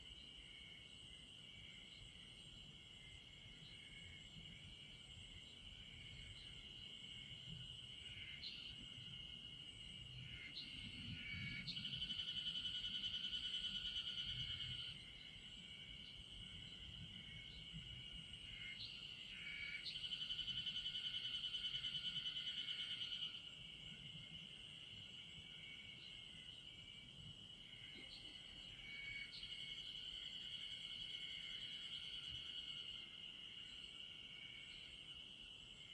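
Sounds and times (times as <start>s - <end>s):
insects trilling chorus: 0.0s - 35.9s
rapidly pulsed insect trills: 0.0s - 35.9s.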